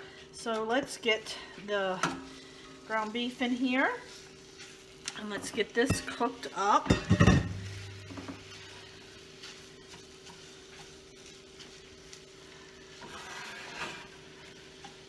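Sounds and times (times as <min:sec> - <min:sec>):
meat frying in a skillet: 0:00.0 - 0:15.0
spatula scraping pan: 0:02.4 - 0:15.0.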